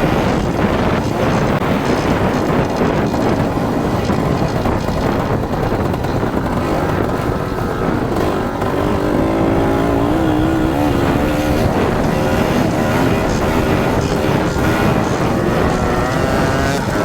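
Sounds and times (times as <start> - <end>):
dense rushing noise: 0.0 - 17.0
dirt bike engine: 0.0 - 17.0.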